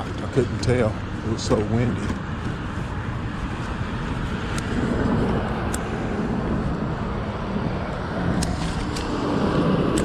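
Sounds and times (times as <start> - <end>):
scooter road noise rumble: 0.0 - 10.0
wind rushing over microphone: 0.0 - 10.0.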